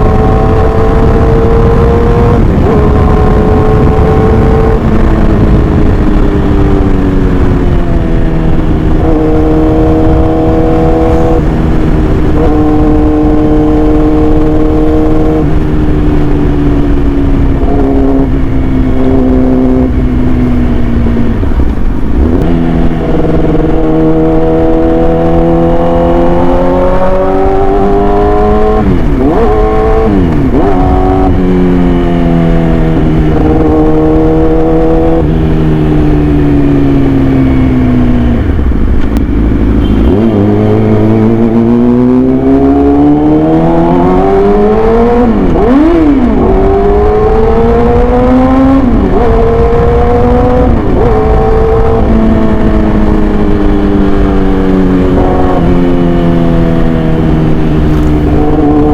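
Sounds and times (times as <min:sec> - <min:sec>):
sport bike engine revving: 0:00.0 - 0:58.9.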